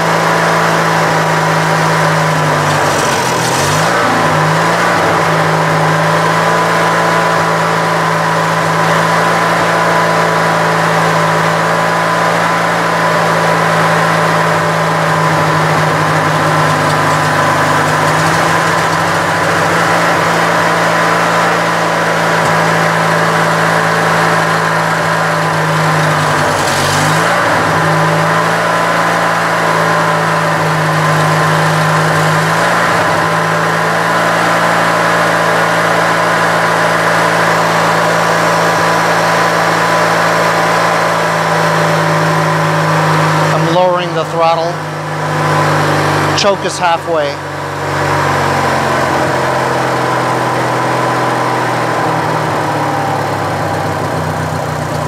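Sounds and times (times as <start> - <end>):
lawn tractor engine running: 0.0 - 55.0.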